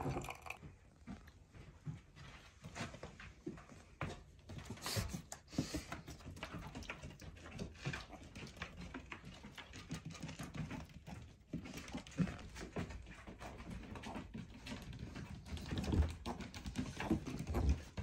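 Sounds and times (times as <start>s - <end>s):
hooves pattering on floor: 0.5s - 18.0s.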